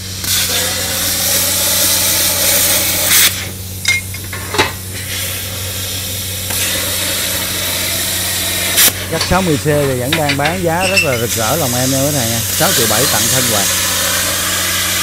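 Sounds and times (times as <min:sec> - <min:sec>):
plasma cutter arc hissing: 0:00.0 - 0:15.0.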